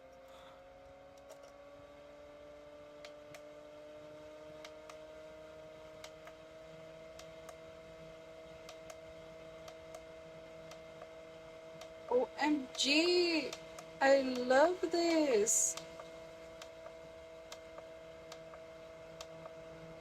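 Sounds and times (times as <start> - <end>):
small fan motor humming: 0.0 - 20.0.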